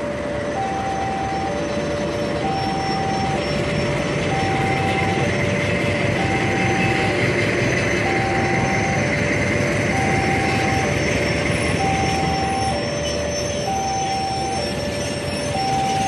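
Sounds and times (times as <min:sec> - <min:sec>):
level crossing two-tone alarm: 0:00.0 - 0:16.0
train wagons rumbling on rails: 0:00.0 - 0:16.0.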